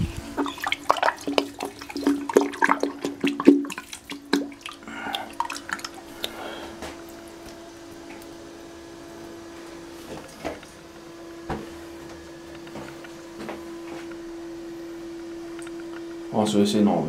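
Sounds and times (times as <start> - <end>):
toilet fill valve humming: 0.0 - 16.6.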